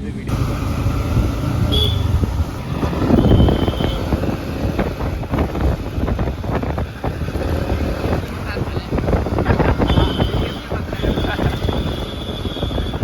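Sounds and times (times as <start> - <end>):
low vehicle rumble: 0.0 - 13.0
wind buffeting microphone: 0.0 - 13.0.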